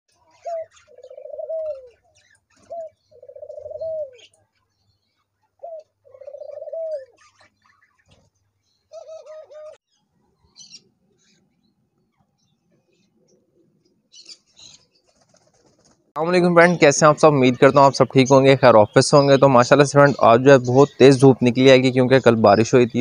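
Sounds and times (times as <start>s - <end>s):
doves cooing: 0.1s - 23.0s.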